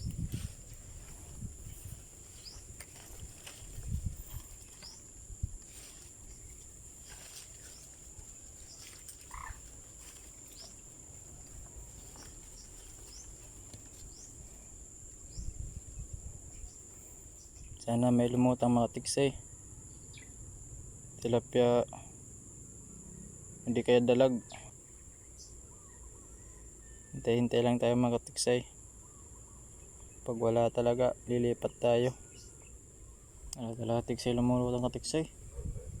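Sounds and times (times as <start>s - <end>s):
frogs chirping: 0.0s - 17.9s, 19.0s - 36.0s
high insect drone: 0.0s - 36.0s.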